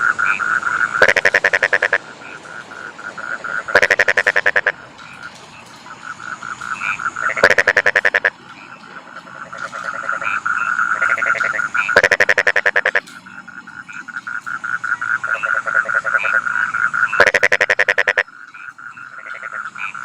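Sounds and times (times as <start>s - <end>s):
chorus of frogs trilling: 0.0s - 20.0s
frog rattling croak: 0.0s - 20.0s.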